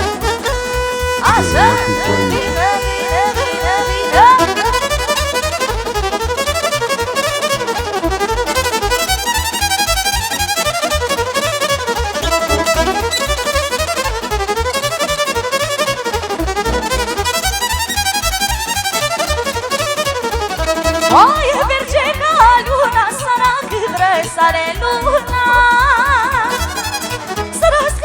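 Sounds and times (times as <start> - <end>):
accordion melody: 0.0 - 28.0
electronic keyboard accompaniment: 0.0 - 28.0
fast bass beat: 0.0 - 28.0
fast violin melody: 0.0 - 28.0.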